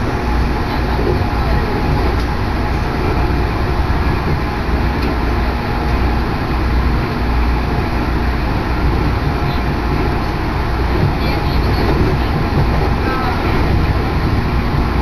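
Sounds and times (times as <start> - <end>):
train rumbling at speed: 0.0 - 15.0
wind buffeting microphone: 0.0 - 15.0.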